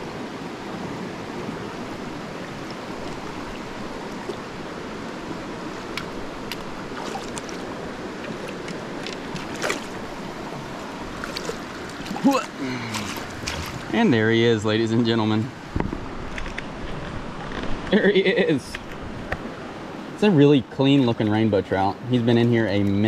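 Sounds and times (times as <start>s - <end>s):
rustle: 0.0s - 20.2s
stream flowing: 0.0s - 23.0s.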